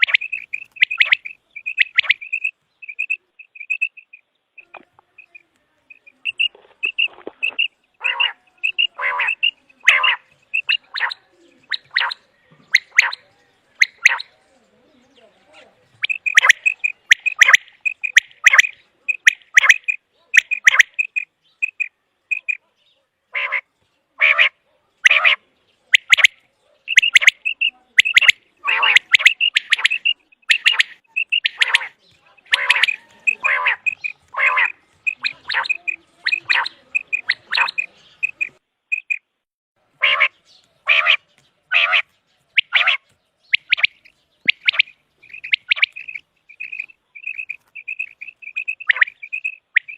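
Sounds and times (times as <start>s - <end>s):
quail calling: 0.0s - 14.4s, 15.9s - 22.7s, 23.3s - 39.2s, 40.0s - 49.9s.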